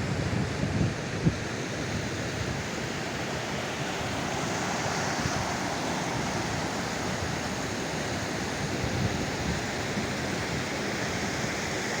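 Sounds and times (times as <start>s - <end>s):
water stream rushing: 0.0s - 12.0s.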